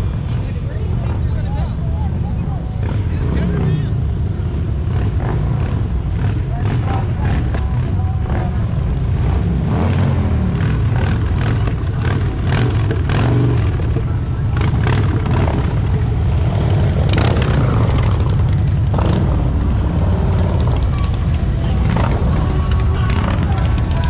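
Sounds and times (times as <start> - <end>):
people's voices: 0.0 - 24.0
vehicle engine running: 0.0 - 24.0.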